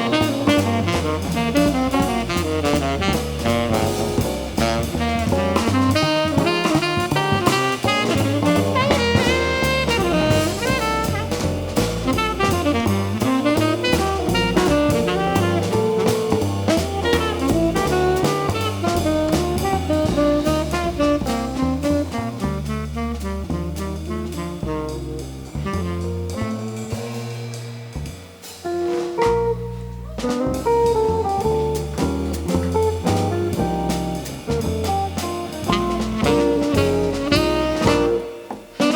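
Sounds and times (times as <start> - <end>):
jazz band playing live: 0.0 - 38.9.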